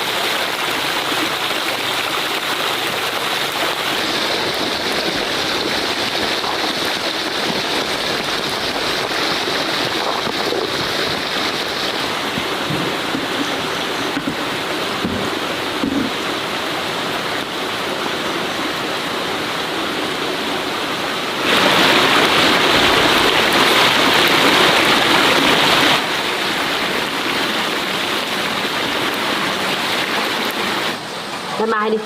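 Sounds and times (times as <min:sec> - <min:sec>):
falling water rushing: 0:00.0 - 0:32.0.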